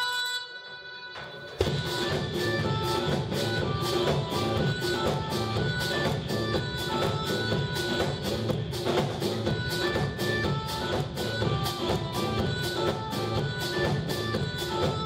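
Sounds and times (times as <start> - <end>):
hand drums beating: 1.6 - 15.0.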